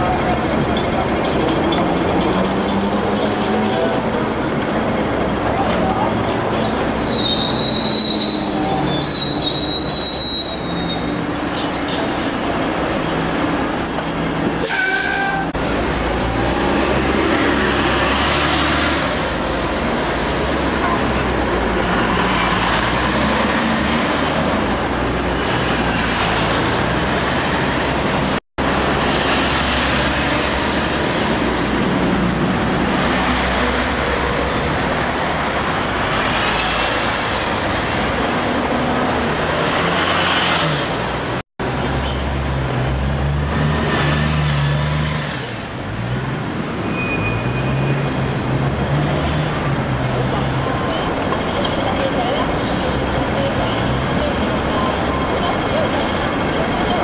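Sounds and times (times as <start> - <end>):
buses passing: 0.0 - 57.0
road traffic noise: 0.0 - 57.0.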